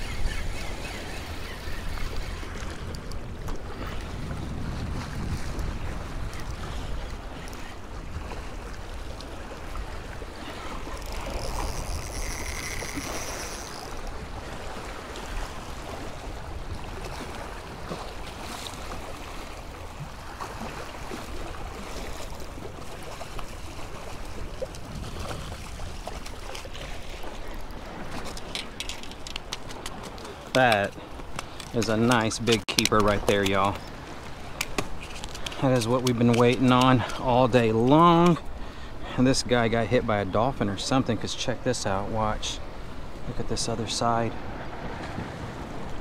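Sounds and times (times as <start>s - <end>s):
wind buffeting microphone: 0.0s - 38.6s, 44.2s - 46.0s
waves lapping against rocks: 0.0s - 46.0s.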